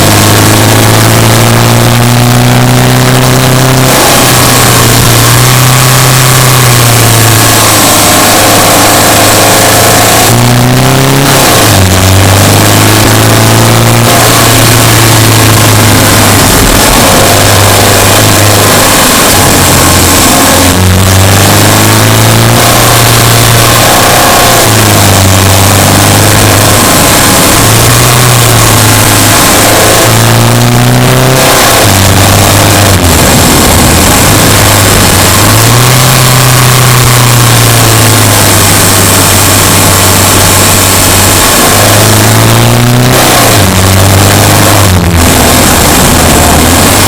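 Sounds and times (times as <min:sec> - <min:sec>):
car engine while driving: 0:00.0 - 0:47.0.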